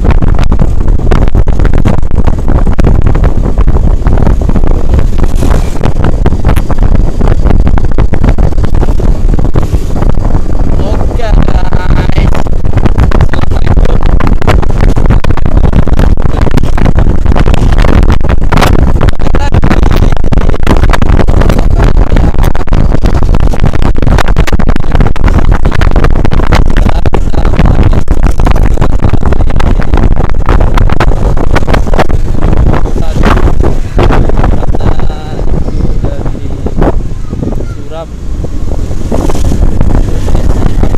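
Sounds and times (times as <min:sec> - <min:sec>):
vehicle engine and road noise: 0:00.0 - 0:40.9
wind buffeting microphone: 0:00.0 - 0:40.9.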